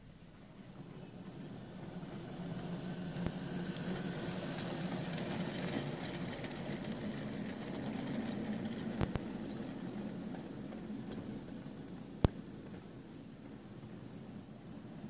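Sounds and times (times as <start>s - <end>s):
model train motor whine: 0.0s - 12.2s
wheels rumbling on track: 0.2s - 12.9s
sharp clicks of wheels on track: 0.7s - 12.9s.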